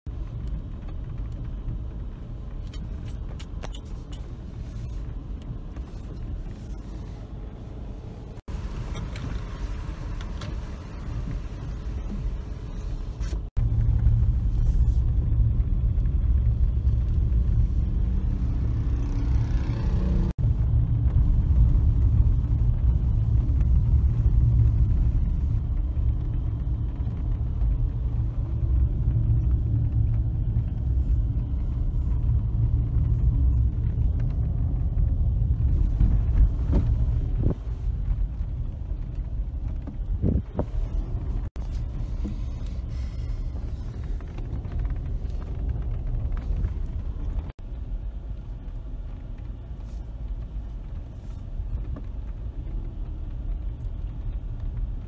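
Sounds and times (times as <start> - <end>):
car driving rumble from inside: 0.0 - 55.0.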